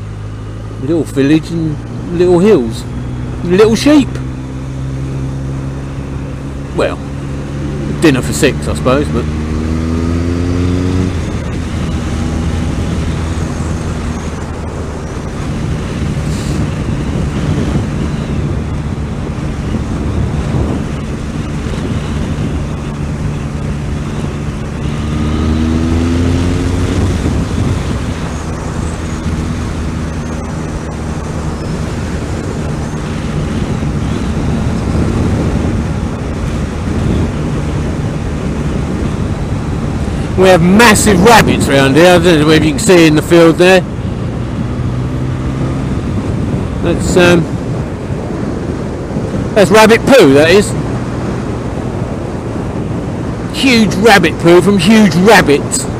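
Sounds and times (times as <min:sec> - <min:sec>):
motorcycle engine running: 0:00.0 - 0:49.6
wind rush on microphone: 0:00.0 - 0:55.9.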